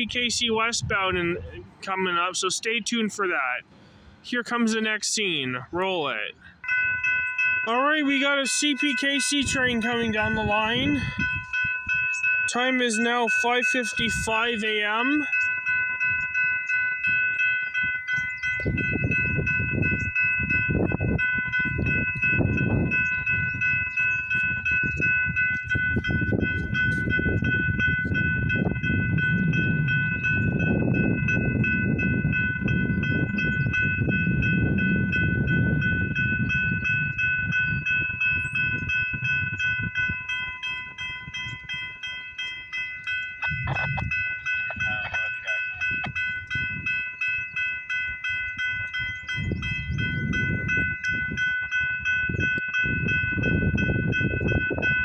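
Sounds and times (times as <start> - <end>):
level crossing bell ringing: 4.4 - 55.0.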